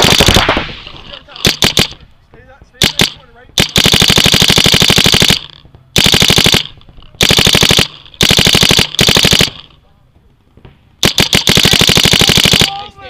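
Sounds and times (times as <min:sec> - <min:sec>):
paintball marker rapid firing: 0:00.0 - 0:02.0, 0:02.8 - 0:09.7, 0:11.0 - 0:13.0.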